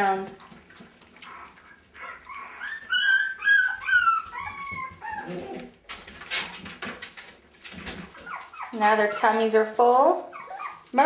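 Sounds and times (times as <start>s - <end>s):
puppies whimpering: 0.5s - 6.8s, 7.9s - 11.0s.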